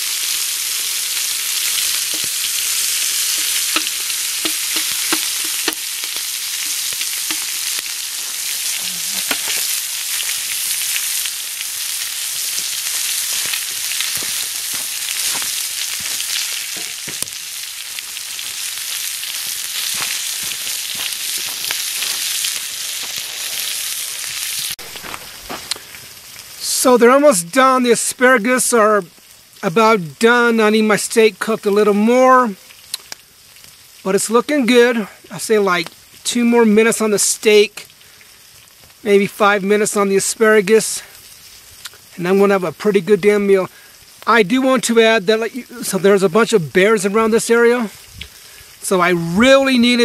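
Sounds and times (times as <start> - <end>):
food sizzling in a pan: 0.0 - 50.0.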